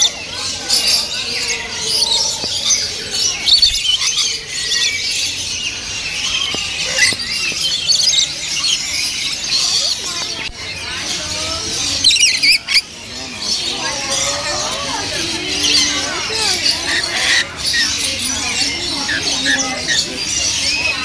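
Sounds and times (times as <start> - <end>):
parrots screeching: 0.0 - 10.2, 10.8 - 21.0.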